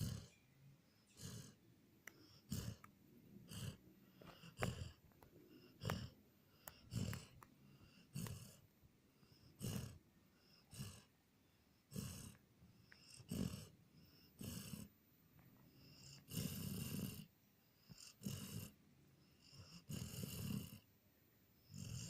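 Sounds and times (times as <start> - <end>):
dog snoring: 0.0 - 15.0, 15.6 - 20.9, 21.6 - 22.0.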